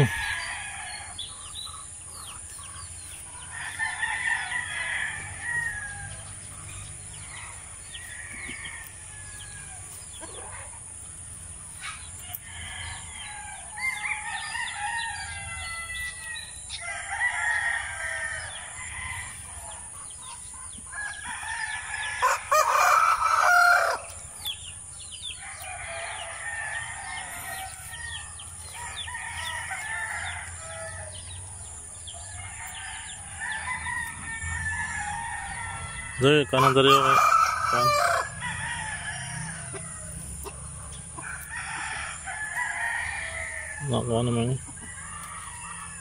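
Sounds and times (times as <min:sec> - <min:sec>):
roosters crowing: 0:00.0 - 0:46.0.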